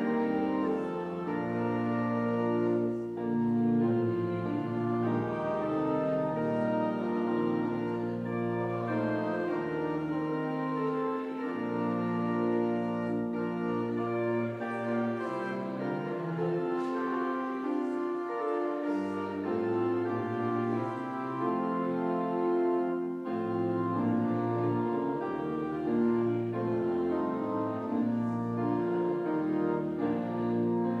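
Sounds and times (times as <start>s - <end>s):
organ playing a hymn: 0.0s - 31.0s.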